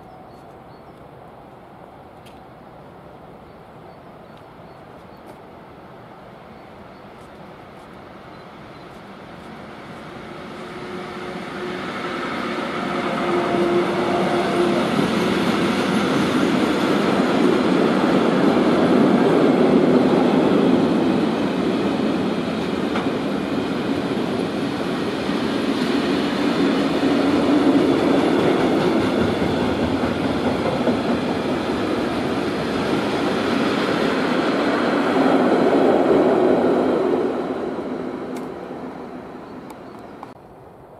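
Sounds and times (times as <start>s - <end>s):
train passing: 0.0s - 40.9s.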